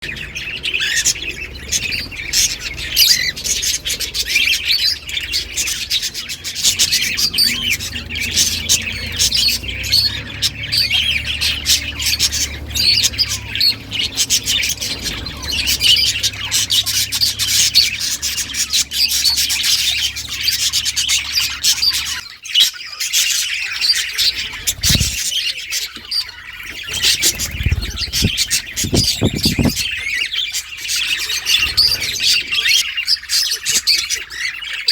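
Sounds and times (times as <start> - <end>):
budgerigars chirping: 0.0 - 34.9.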